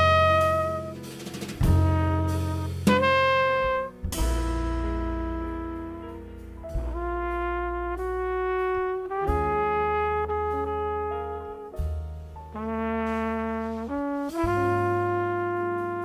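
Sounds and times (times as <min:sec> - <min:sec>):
trumpet holding long notes: 0:00.0 - 0:11.8, 0:12.6 - 0:16.0
jazz quartet playing ballad: 0:00.0 - 0:16.0
sustained low bass line: 0:01.6 - 0:16.0.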